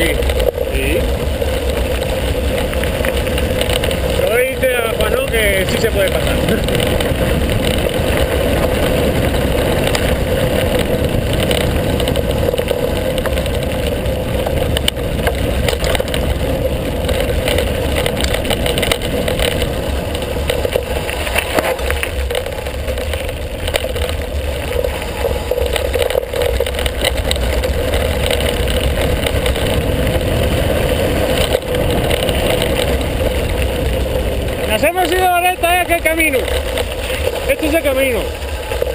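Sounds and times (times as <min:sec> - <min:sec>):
bike rattling and knocking: 0:00.0 - 0:38.9
tyre rumble on gravel: 0:00.0 - 0:38.9
wind on microphone: 0:00.0 - 0:38.9.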